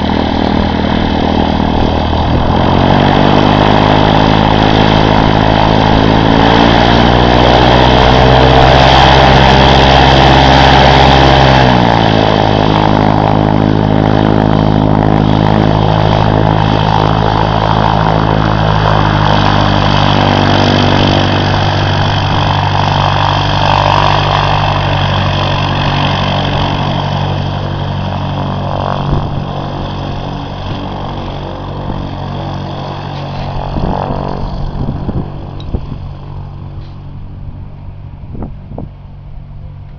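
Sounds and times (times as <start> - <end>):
small airplane engine and propeller: 0.0 - 39.9.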